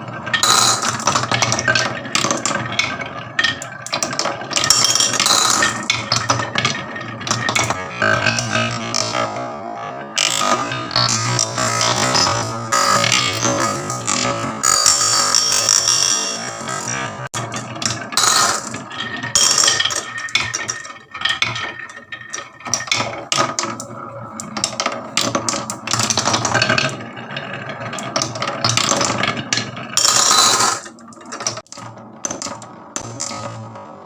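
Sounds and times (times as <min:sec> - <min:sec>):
marbles clattering down wooden track: 0:00.0 - 0:09.5, 0:10.2 - 0:34.0.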